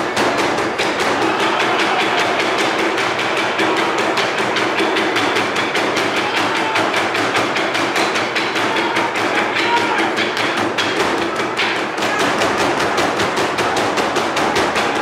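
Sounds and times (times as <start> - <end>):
drum ensemble playing: 0.0 - 15.0.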